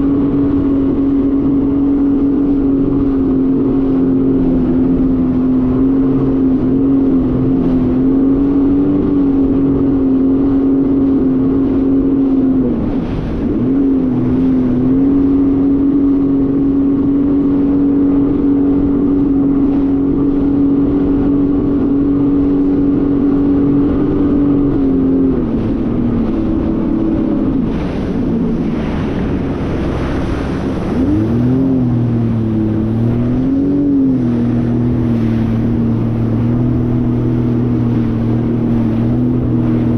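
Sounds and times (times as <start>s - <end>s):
jet ski engine running: 0.0s - 39.9s
wind and water rushing: 0.0s - 39.9s.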